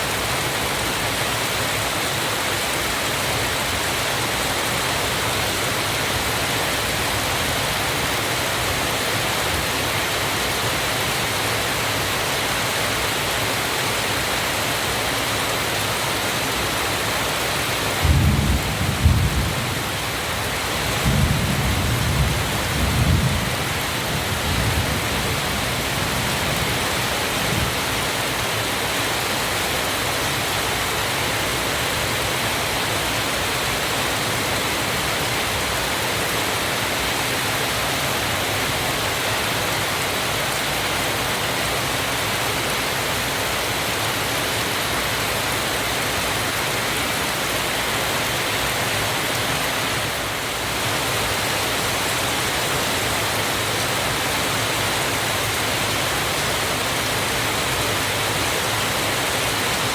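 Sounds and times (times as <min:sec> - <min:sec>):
waterfall rushing: 0:00.0 - 0:18.1, 0:23.6 - 0:59.9.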